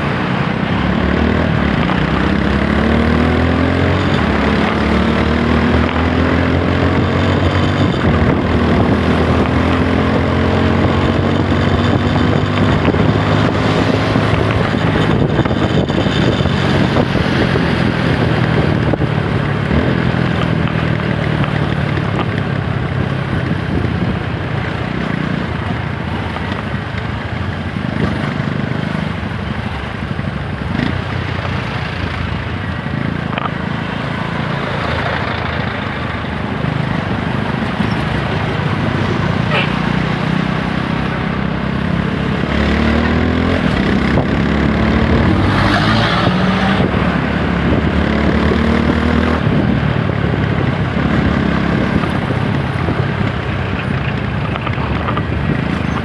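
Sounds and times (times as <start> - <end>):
motorcycle engine pulling: 0.1 - 56.0.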